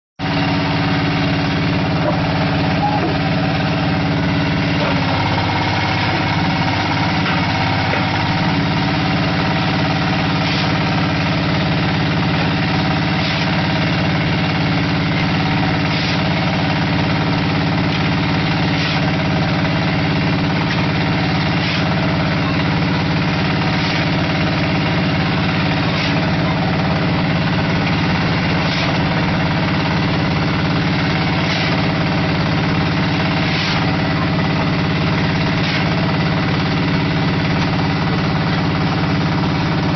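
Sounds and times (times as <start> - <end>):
diesel engine running: 0.2 - 39.9.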